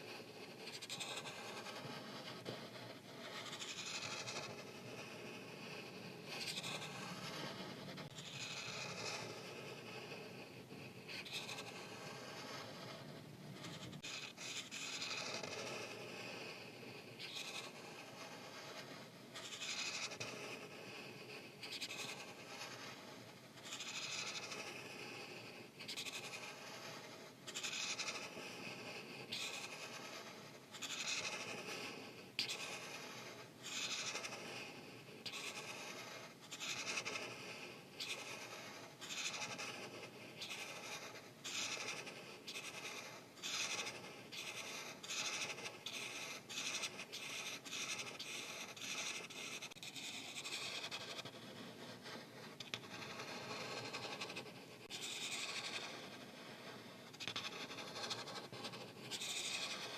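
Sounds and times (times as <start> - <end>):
marker scratching on paper: 0.0 - 59.9.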